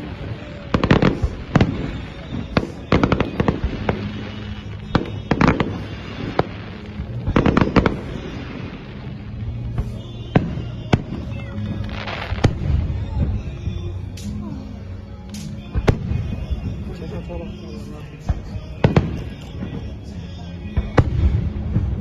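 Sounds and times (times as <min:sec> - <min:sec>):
fireworks exploding: 0:00.0 - 0:22.0.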